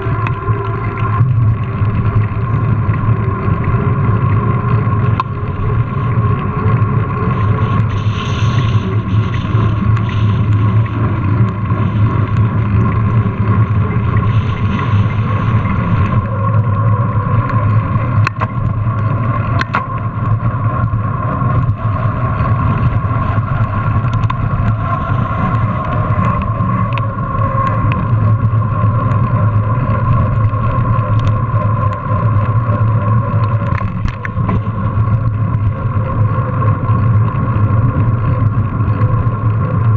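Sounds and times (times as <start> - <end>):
bike rumbling over paving: 0.0 - 39.9
wind noise: 0.0 - 39.9.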